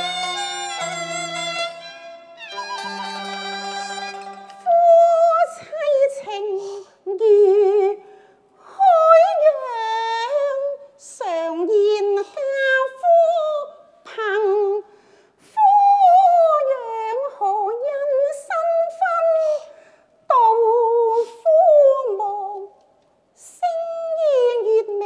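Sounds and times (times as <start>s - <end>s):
opera singing with vibrato: 2.5s - 14.8s, 15.4s - 19.7s, 20.3s - 22.7s, 23.4s - 25.0s.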